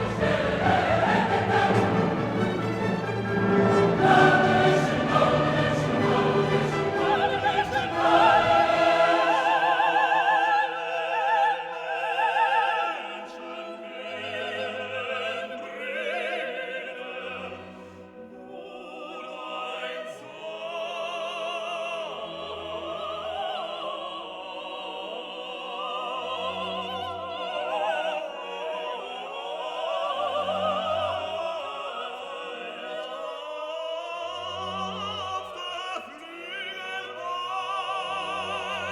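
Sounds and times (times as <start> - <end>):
operatic singing with orchestra: 0.0 - 38.9.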